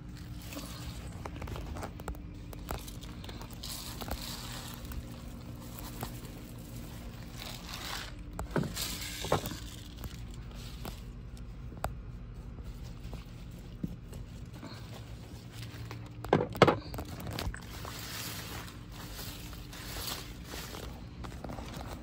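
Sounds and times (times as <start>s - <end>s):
granules pattering onto soil: 0.0s - 22.0s.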